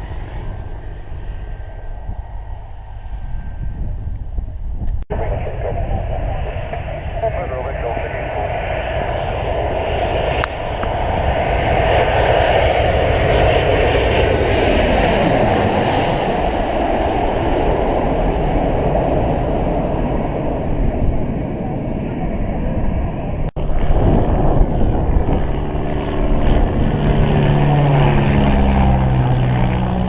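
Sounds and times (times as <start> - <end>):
airplane passing low: 0.0 - 30.0.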